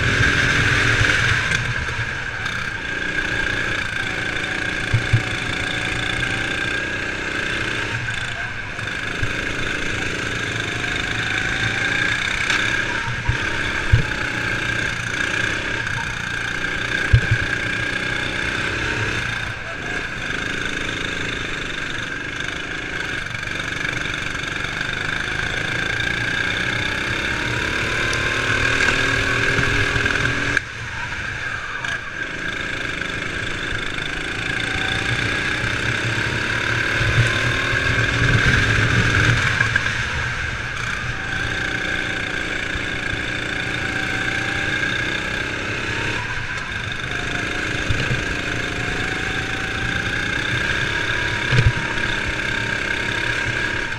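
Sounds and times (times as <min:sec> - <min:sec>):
kart engine revving: 0:00.0 - 0:53.9
other kart engine: 0:00.0 - 0:53.9.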